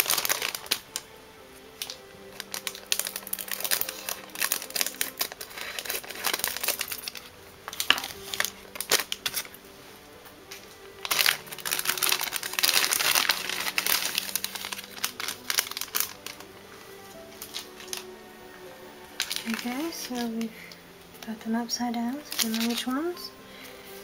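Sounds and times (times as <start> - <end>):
plastic packaging crinkling: 0.0 - 1.1, 1.8 - 9.6, 10.5 - 18.2, 19.0 - 21.4, 22.1 - 23.3
faint background music: 0.0 - 24.0.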